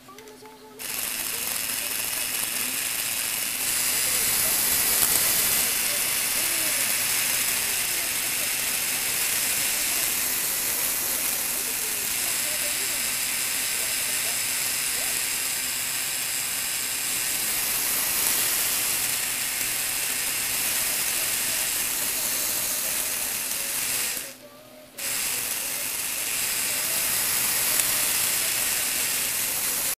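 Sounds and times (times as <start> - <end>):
plastic gears whirring: 0.0 - 24.4, 25.0 - 29.9.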